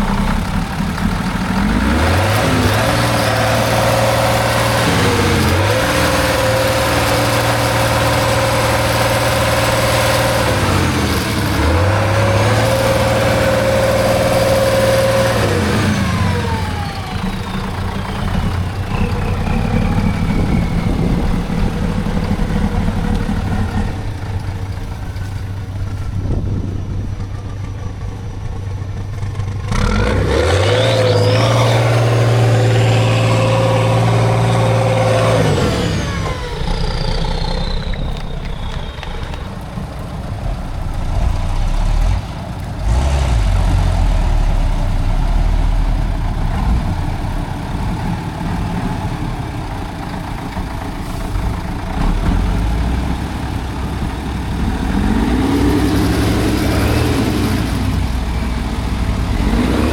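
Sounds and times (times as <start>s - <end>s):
high engine whine: 0.0s - 59.9s
truck engine revving: 0.0s - 59.9s.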